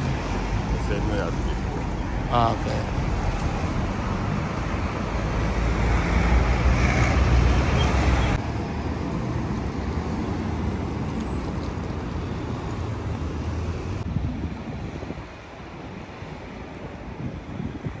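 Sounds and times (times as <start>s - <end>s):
road traffic rumbling: 0.0s - 17.9s.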